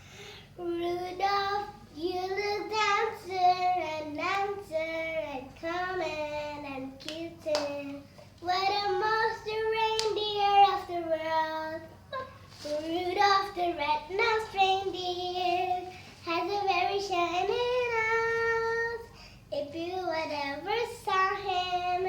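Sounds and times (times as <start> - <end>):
girl singing: 0.1 - 22.0.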